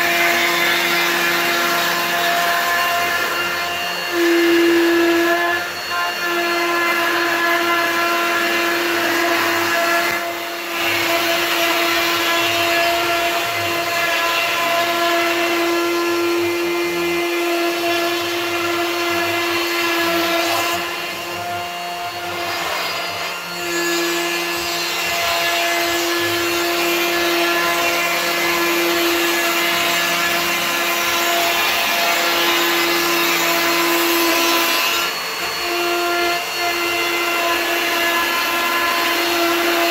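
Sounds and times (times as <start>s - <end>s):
electric router rasping wood: 0.0s - 39.9s.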